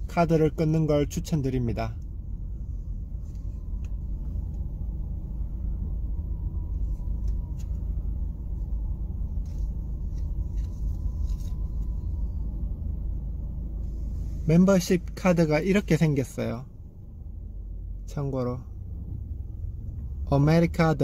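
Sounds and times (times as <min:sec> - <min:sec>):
engine and tyres rumbling: 0:00.0 - 0:21.0.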